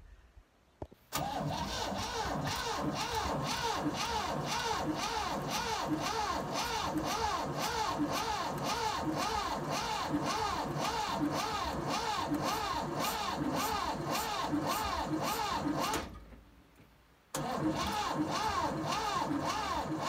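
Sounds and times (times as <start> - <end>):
engine cranked by starter: 1.1 - 16.2, 17.3 - 20.0.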